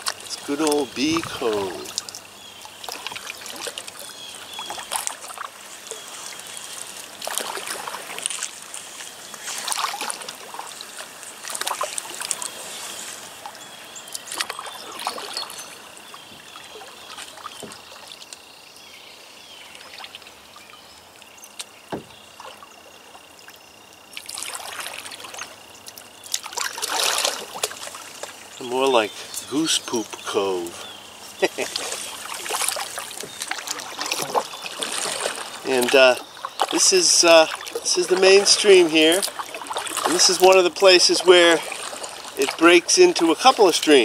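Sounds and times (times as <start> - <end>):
kayak paddle splashing: 0.0 - 44.0
moving river water: 0.0 - 44.0.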